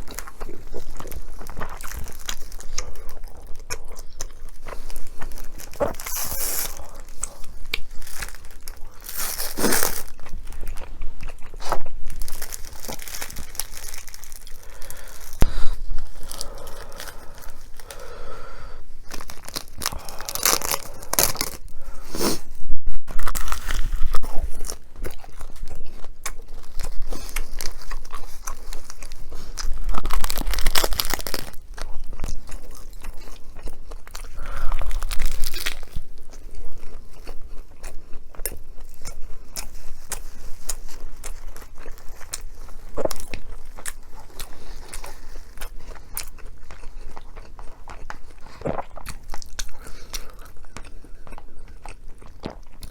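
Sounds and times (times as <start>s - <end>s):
crunchy chewing: 0.0s - 22.6s, 23.2s - 52.9s.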